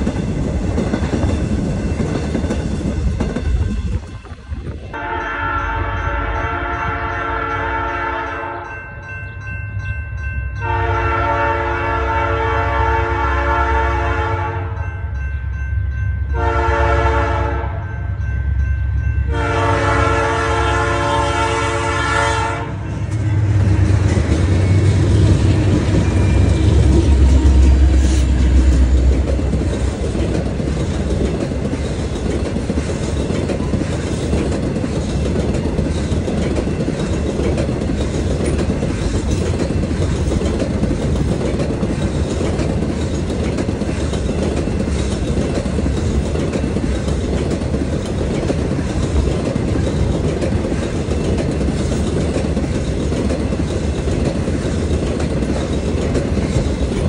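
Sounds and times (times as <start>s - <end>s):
diesel locomotive rumbling: 0.0s - 57.0s
rail cars rattling on rails: 0.0s - 57.0s.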